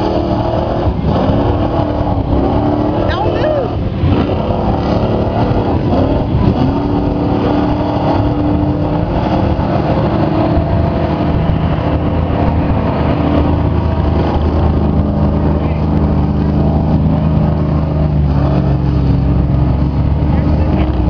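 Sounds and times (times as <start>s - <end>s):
truck engine running under load: 0.0s - 21.0s.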